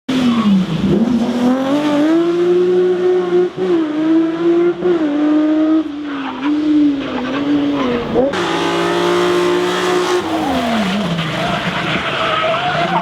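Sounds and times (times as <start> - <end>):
car engine at high revs: 0.1 - 13.0.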